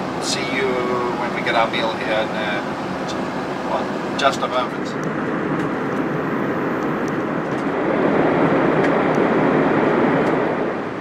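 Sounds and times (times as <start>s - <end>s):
airliner cabin rushing noise: 0.0s - 11.0s.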